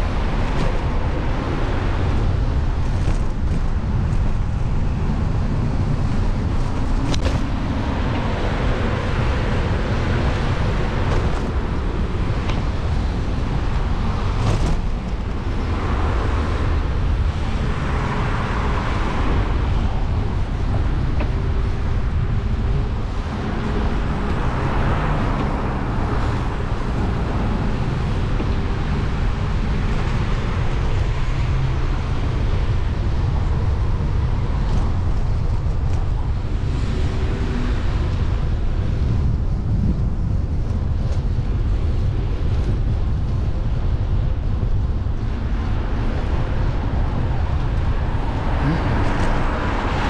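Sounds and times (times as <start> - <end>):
road traffic noise: 0.0 - 50.0
wind rumbling on microphone: 0.0 - 50.0.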